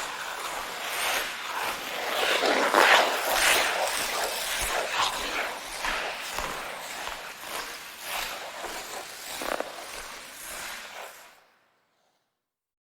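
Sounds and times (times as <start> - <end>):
skate blades scraping ice: 0.0 - 11.7.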